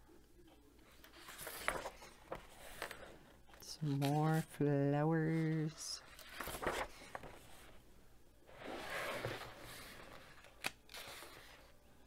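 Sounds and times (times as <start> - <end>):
paper pages rustling: 0.8 - 4.6, 5.2 - 7.8, 8.5 - 11.8.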